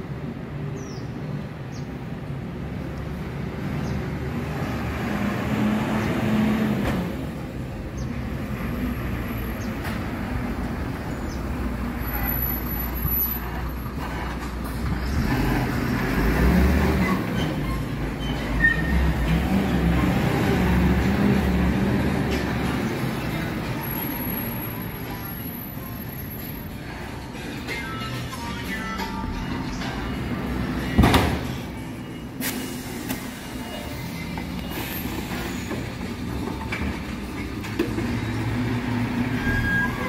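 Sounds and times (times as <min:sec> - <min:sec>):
truck diesel engine drone: 0:03.3 - 0:40.0.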